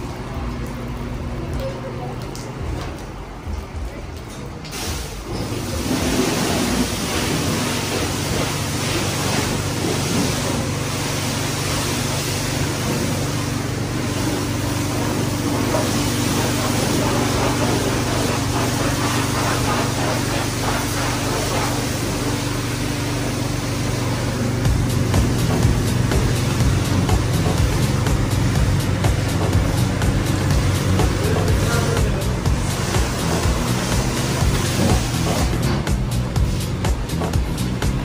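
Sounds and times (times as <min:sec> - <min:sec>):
carwash machinery humming: 0:00.0 - 0:38.0
carwash hiss: 0:04.7 - 0:38.0.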